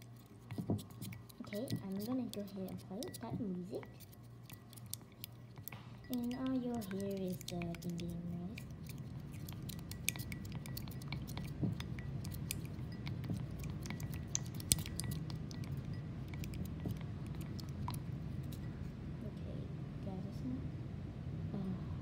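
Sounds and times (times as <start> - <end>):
stick scraping ceramic bowl: 0.0 - 18.8.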